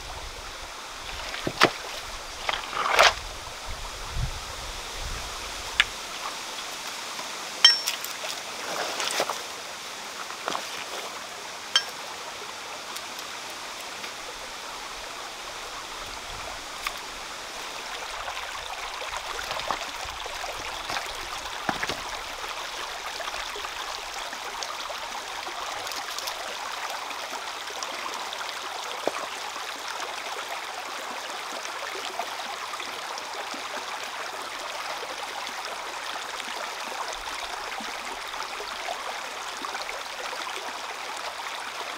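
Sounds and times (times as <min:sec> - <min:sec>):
stream babbling over stones: 0:00.0 - 0:41.9.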